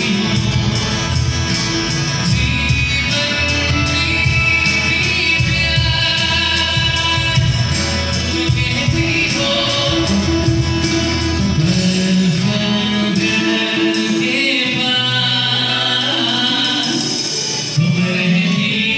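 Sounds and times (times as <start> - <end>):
person singing: 0.0 - 18.9
strummed acoustic guitars: 0.0 - 18.9.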